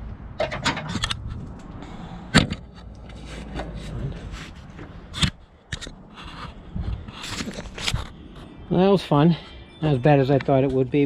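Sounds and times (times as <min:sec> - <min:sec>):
faint scraping: 0:01.2 - 0:10.9.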